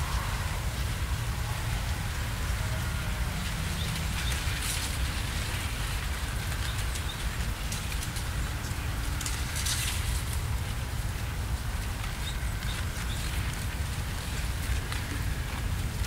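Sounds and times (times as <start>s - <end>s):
wind buffeting microphone: 0.0s - 16.0s
wind rustling dry plants: 0.0s - 16.0s.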